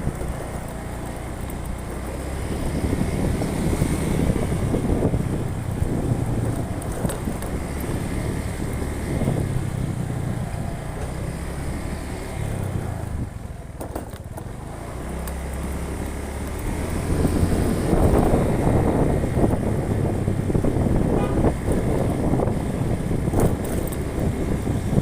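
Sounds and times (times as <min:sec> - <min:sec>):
vehicle engine running: 0:00.0 - 0:25.0
wind noise on microphone: 0:00.0 - 0:25.0.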